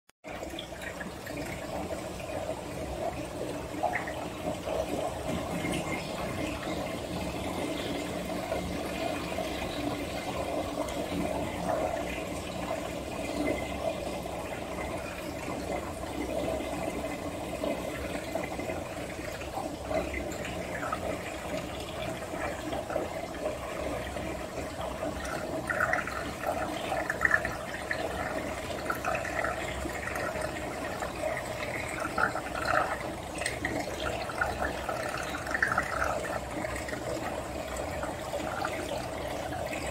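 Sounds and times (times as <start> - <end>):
water running and splashing: 0.2 - 39.9.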